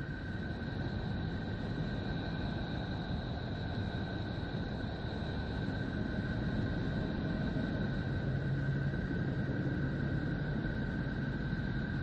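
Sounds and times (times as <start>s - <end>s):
dense steady noise: 0.0s - 12.0s.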